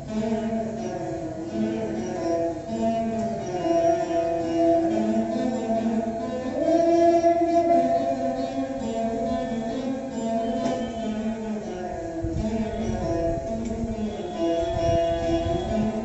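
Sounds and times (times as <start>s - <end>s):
plucked string instruments duet: 0.0s - 16.0s.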